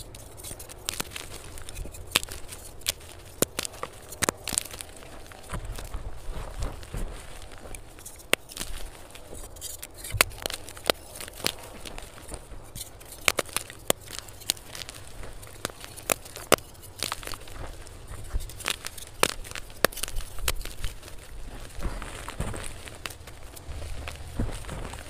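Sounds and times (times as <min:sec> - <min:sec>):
chalk blocks snapping and crumbling: 0:00.0 - 0:25.0.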